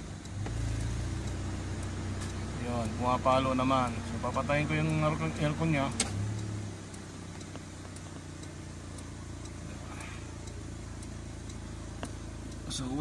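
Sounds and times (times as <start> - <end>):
car engine idling inside cabin: 0.0 - 13.0.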